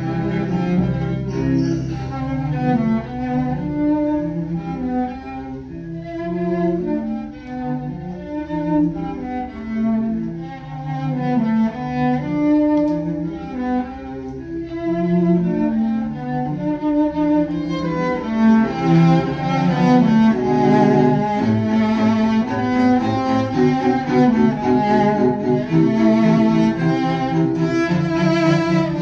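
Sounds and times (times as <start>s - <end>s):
cello bowing sustained notes: 0.0s - 29.0s.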